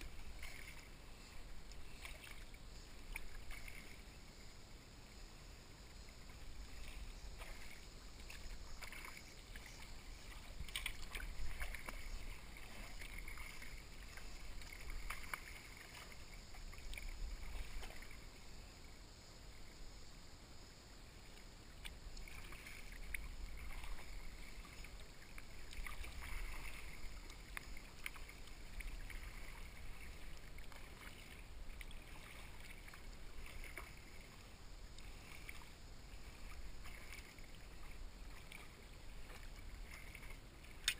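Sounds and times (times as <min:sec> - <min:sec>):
paddle splashing through water: 0:00.0 - 0:04.6, 0:05.9 - 0:18.6, 0:21.3 - 0:40.9.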